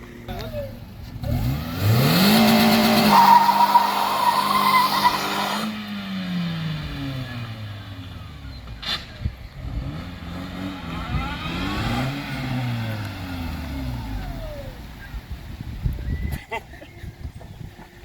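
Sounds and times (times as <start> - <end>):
car engine revving: 0.3 - 15.2.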